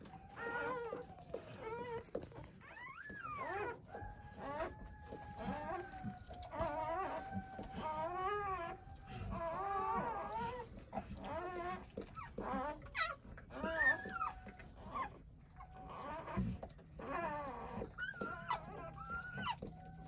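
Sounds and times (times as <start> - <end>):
dog whimpering: 0.0 - 20.0.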